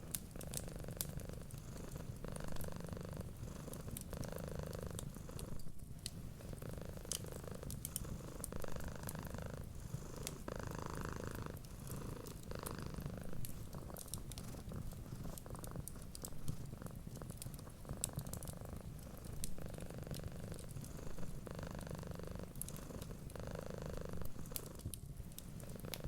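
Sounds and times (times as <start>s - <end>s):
cat purring: 0.0s - 26.0s
fireplace crackling: 0.0s - 26.0s.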